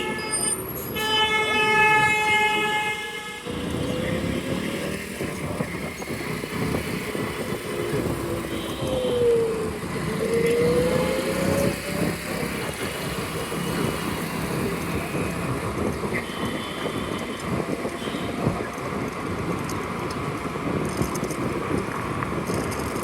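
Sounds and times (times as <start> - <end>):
road traffic: 0.0 - 23.0
scooter engine whine: 3.4 - 23.0
wind on microphone: 3.5 - 23.0.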